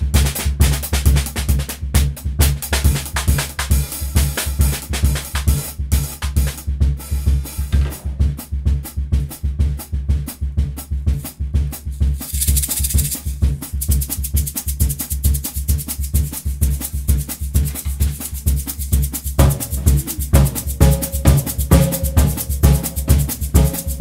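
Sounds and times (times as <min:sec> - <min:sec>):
handheld shaker rhythm: 0:00.0 - 0:07.6, 0:10.8 - 0:24.0
drum kit snare strokes: 0:00.0 - 0:13.9, 0:17.3 - 0:24.0
bass-heavy backing track: 0:00.0 - 0:24.0.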